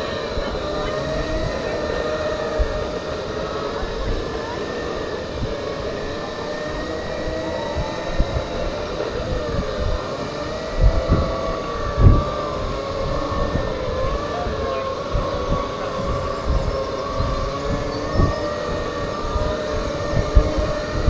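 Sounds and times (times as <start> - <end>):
motor whine: 0.0 - 21.0.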